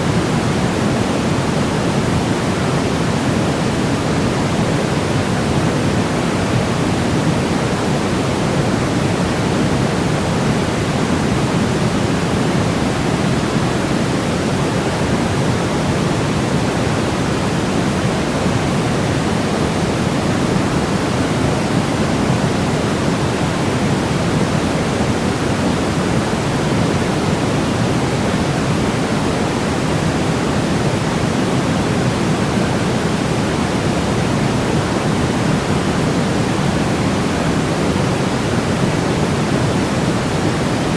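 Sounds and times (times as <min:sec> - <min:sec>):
steady white noise hiss: 0:00.0 - 0:40.9.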